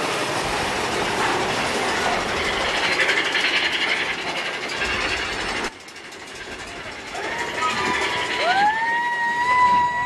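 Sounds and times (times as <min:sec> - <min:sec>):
steel wheels on rails: 0:00.0 - 0:10.0.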